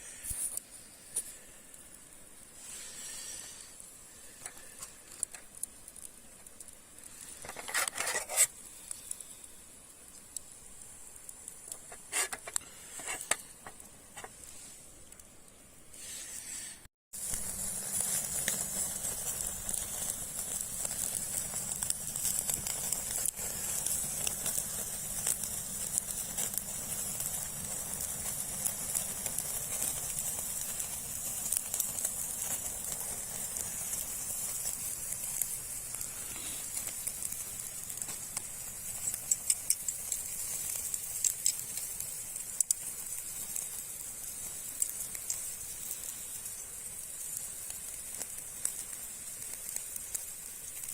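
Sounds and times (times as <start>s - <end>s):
food sizzling with pops: 0.0s - 50.9s.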